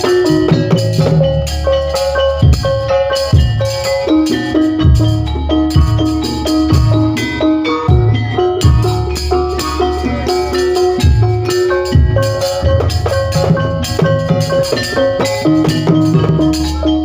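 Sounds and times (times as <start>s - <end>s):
ringing metal mallet instruments: 0.0s - 17.0s.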